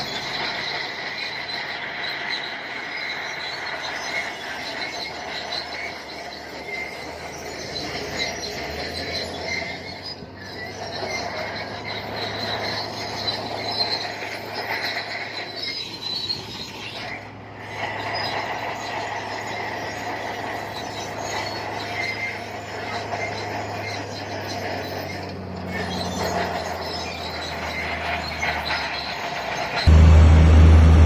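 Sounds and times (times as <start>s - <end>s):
bulldozer diesel engine hum: 0.0s - 31.0s
steel tracks squealing: 0.0s - 31.0s.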